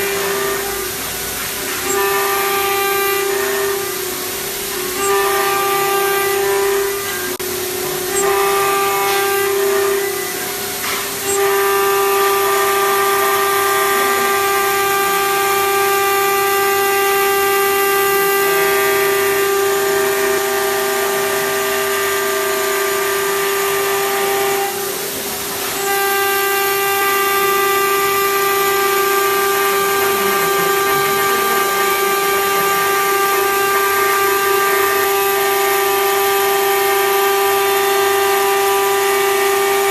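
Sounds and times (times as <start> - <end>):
cutting machine high whine: 0.0 - 39.9.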